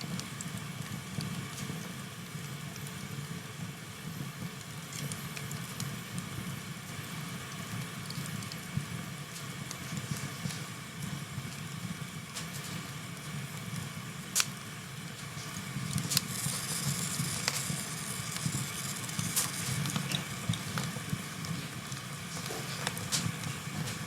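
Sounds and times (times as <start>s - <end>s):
fire crackling and popping: 0.0s - 24.0s
flames rumbling: 0.0s - 24.0s.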